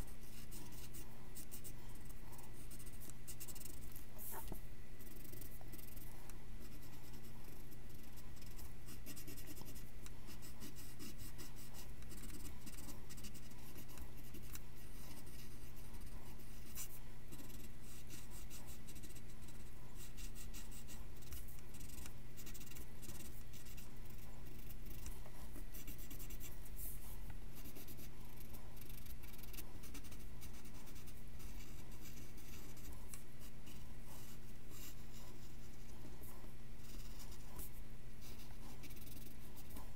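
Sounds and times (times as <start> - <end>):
pencil scratching on paper: 0.0 - 39.9.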